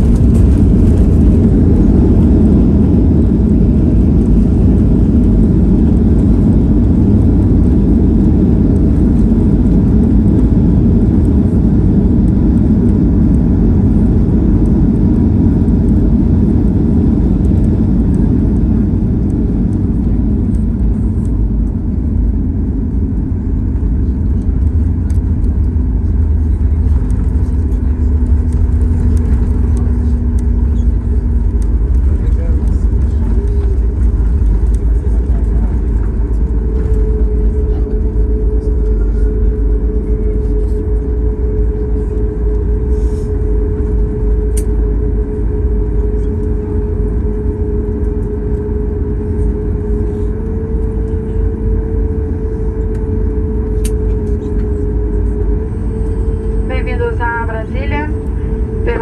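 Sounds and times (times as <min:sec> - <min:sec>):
rumble of jet engines and wheels: 0:00.0 - 0:59.0
steady low hum: 0:00.0 - 0:59.0.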